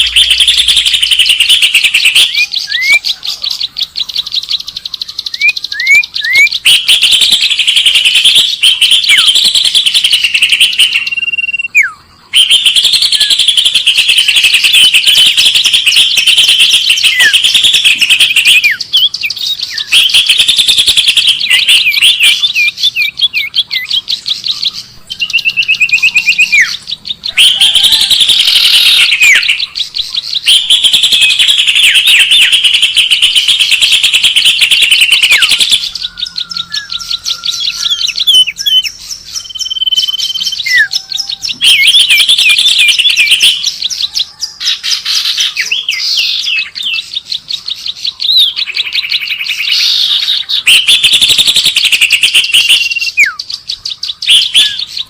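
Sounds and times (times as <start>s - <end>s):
recorded songbirds chirping: 0.0s - 55.0s.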